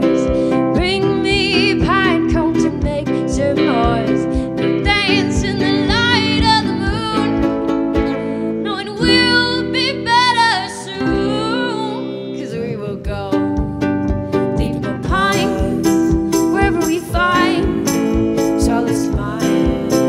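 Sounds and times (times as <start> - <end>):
acoustic guitar: 0.0 - 20.0
ukulele: 0.0 - 20.0
upright bass: 0.0 - 20.0
woman singing: 0.0 - 20.0.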